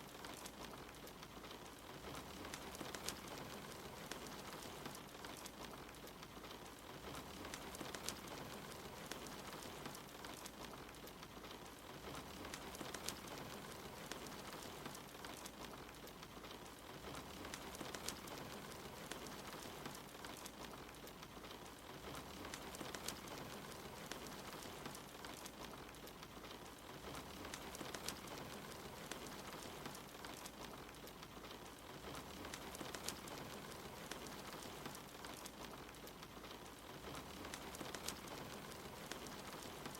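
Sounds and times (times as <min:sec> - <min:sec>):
rain pattering: 0:00.0 - 0:39.9
wood fire crackling: 0:00.0 - 0:39.9.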